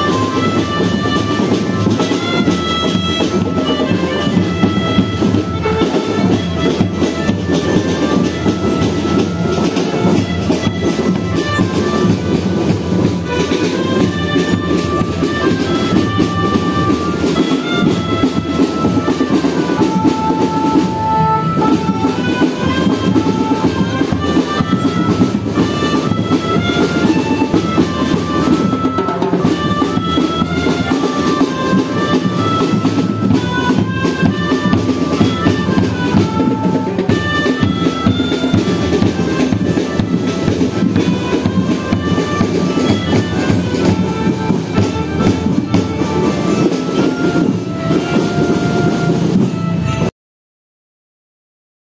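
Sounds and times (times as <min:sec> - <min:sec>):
continuous drumming: 0:00.0 - 0:50.1
marching band playing: 0:00.0 - 0:50.1.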